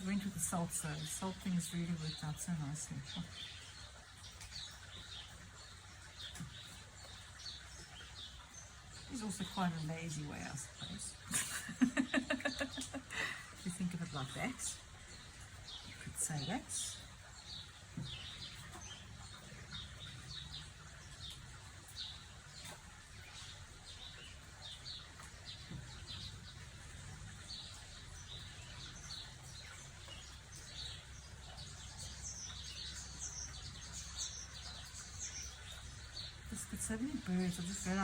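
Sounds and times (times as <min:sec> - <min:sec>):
birds chirping and twittering: 0:00.0 - 0:38.0.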